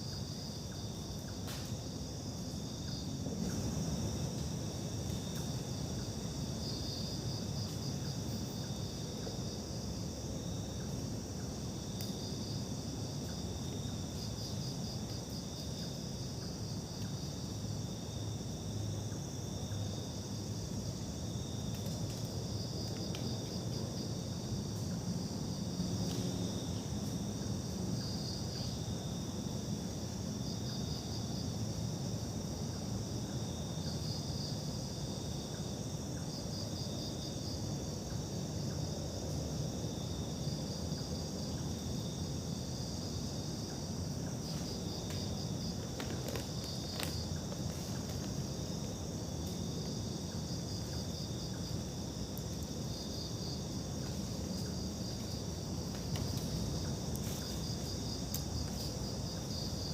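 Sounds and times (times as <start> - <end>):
crickets and insects calling: 0.0 - 59.9.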